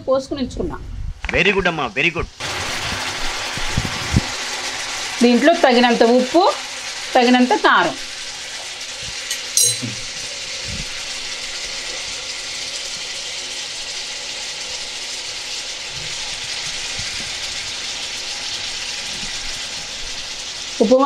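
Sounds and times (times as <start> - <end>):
food sizzling in hot oil: 2.2 - 21.0.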